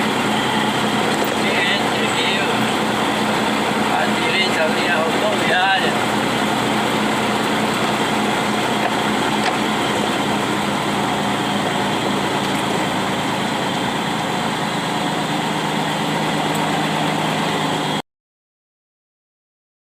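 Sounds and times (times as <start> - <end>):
vehicle engine drone and road noise: 0.0 - 18.0.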